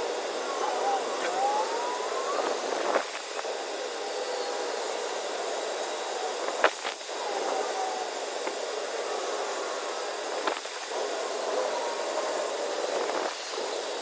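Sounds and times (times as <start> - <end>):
even hiss: 0.0 - 14.0.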